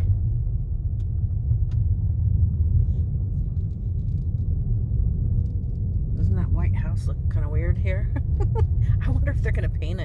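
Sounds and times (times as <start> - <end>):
car driving on dirt road: 0.0 - 10.0.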